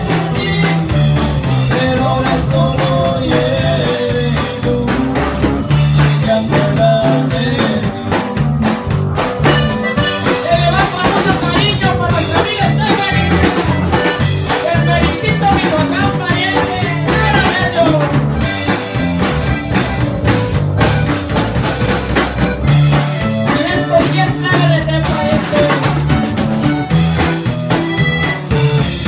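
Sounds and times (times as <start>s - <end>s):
drum kit beat: 0.0s - 29.0s
electric guitars strummed: 0.0s - 29.0s.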